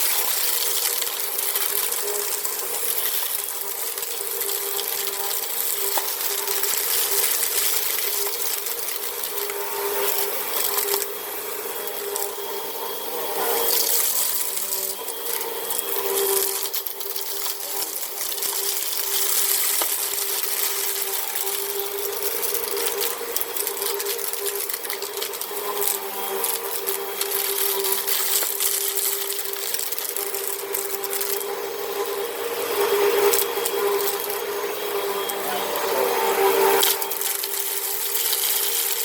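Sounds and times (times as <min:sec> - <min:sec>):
debris rattling in vacuum: 0:00.0 - 0:39.0
vacuum cleaner running: 0:00.0 - 0:39.0.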